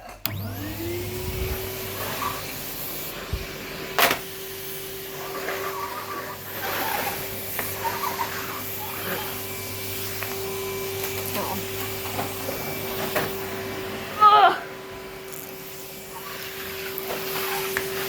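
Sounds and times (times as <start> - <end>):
vacuum cleaner running: 0.1 - 18.0
nozzle scraping floor: 0.4 - 14.1, 15.0 - 18.0.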